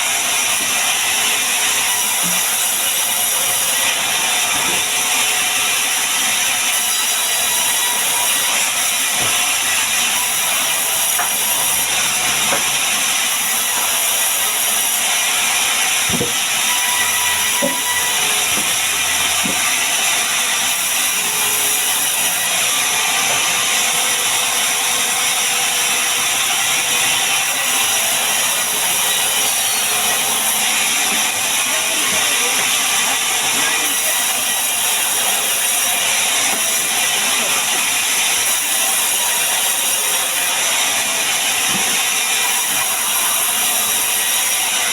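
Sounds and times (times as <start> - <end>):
power tool working wood: 0.0 - 44.9.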